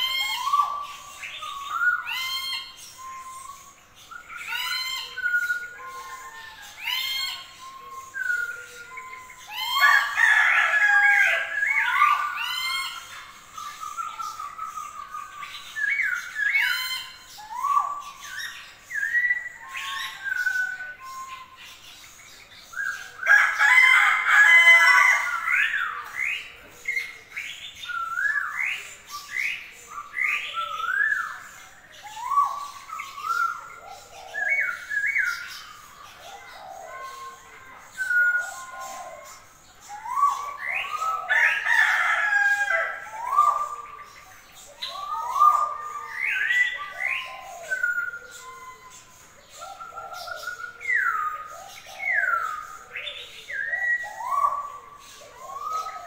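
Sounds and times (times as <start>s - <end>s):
songbirds chirping and whistling: 0.0s - 56.0s.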